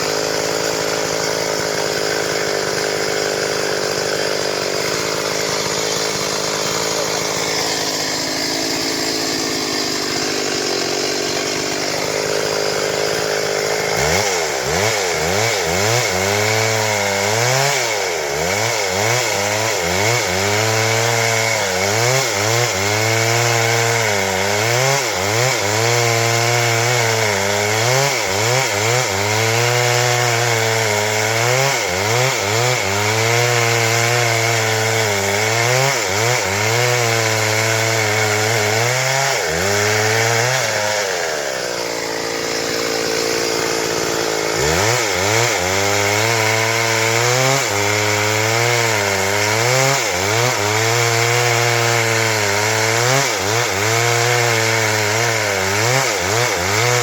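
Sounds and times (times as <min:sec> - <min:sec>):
chainsaw sawing timber: 0:00.0 - 0:57.0.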